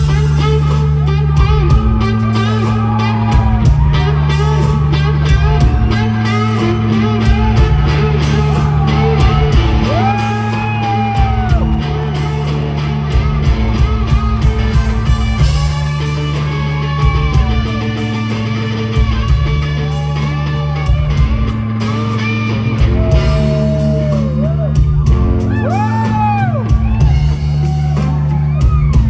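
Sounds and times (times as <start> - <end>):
bass notes: 0.0 - 29.0
electric guitar lead: 0.0 - 29.0
steady drum beat: 0.0 - 29.0.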